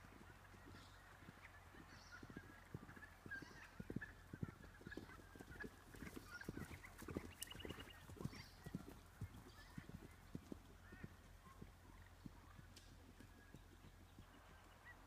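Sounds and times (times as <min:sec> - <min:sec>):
horse hoofbeats on grass: 0:00.0 - 0:15.0.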